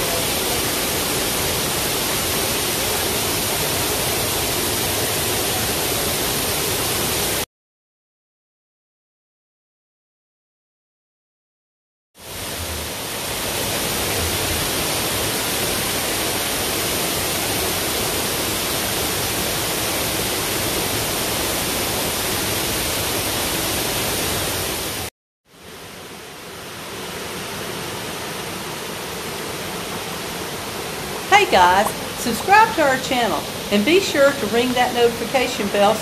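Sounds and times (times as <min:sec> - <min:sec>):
waterfall rushing: 0:00.0 - 0:07.4, 0:12.2 - 0:36.0.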